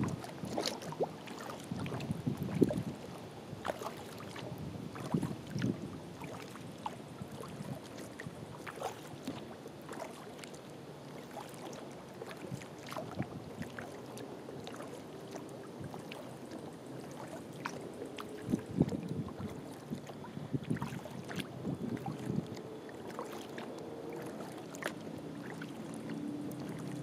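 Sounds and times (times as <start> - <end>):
paddle splashing water: 0.0 - 27.0.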